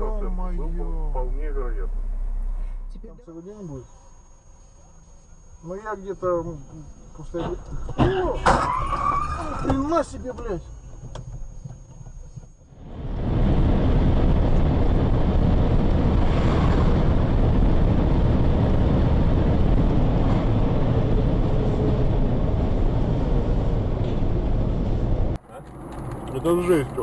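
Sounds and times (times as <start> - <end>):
vehicle rumble: 0.0 - 27.0.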